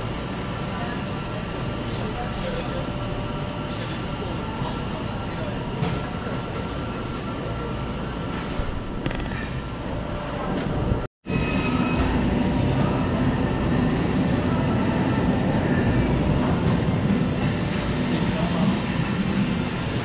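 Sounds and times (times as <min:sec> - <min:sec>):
supermarket rumble and hum: 0:00.0 - 0:20.0.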